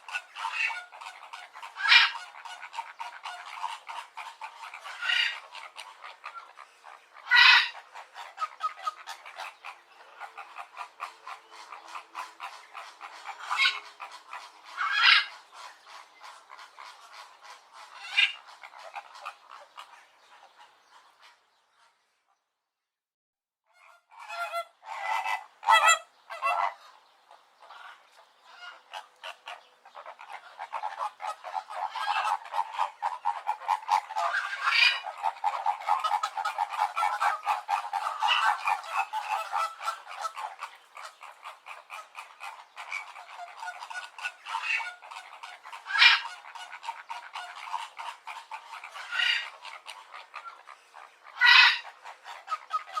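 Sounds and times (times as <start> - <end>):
flamingo flock honking: 0.0 - 21.4, 23.7 - 53.0.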